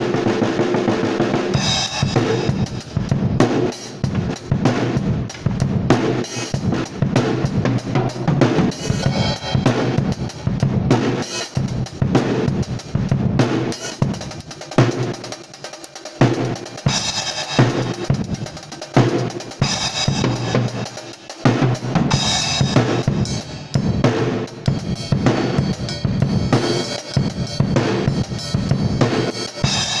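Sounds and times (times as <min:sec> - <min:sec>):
drum kit solo: 0:00.0 - 0:30.0.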